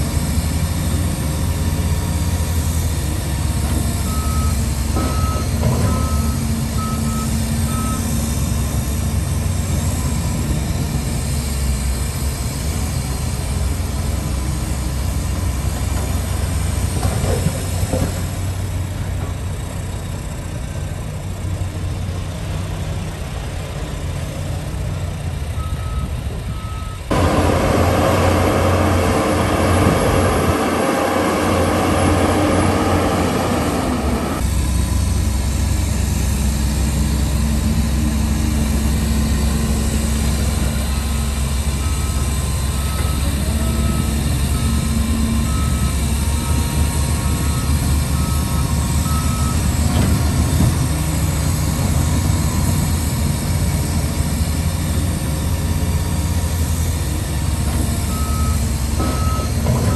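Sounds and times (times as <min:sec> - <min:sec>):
truck reversing beeper: 0:00.0 - 0:17.6, 0:25.5 - 0:59.9
heavy diesel machinery rumbling: 0:00.0 - 0:59.9.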